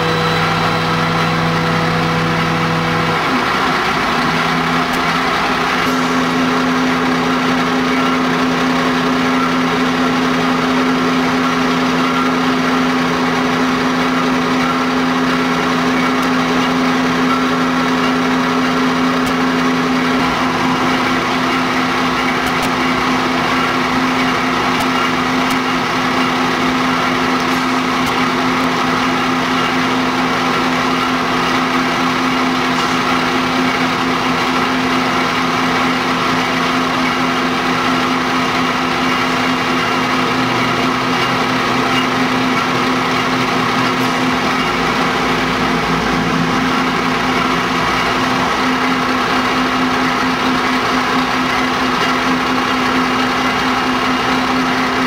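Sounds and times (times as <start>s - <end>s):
fire engine engine droning: 0.0s - 55.0s.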